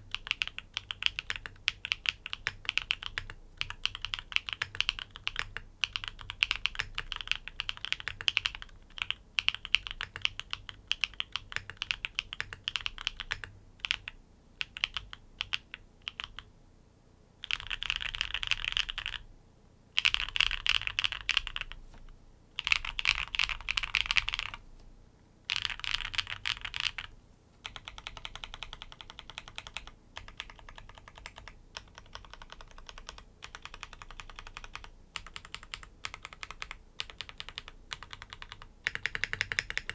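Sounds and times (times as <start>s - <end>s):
mechanical keyboard typing: 0.1s - 16.4s, 17.4s - 19.2s, 20.0s - 21.8s, 22.6s - 24.6s, 25.5s - 39.9s.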